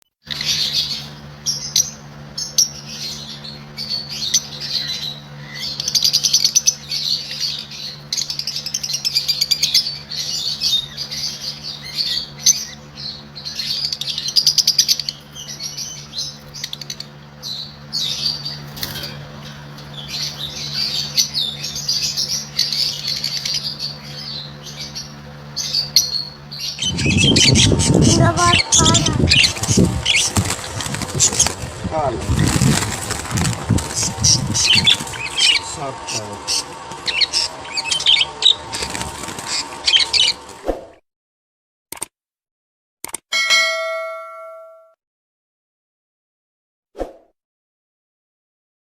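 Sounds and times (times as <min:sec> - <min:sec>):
budgerigars chirping and warbling: 0:00.3 - 0:40.6
steady low hum: 0:00.3 - 0:40.6.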